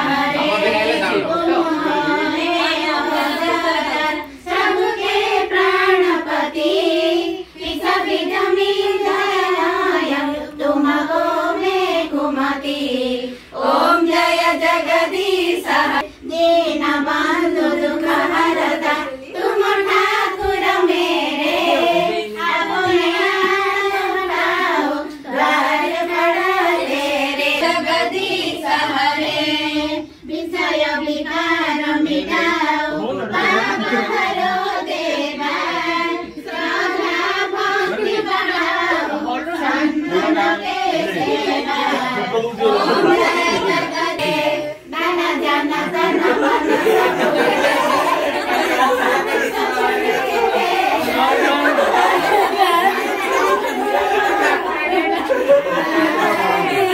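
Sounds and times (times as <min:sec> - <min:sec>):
group singing in unison: 0:00.0 - 0:56.9.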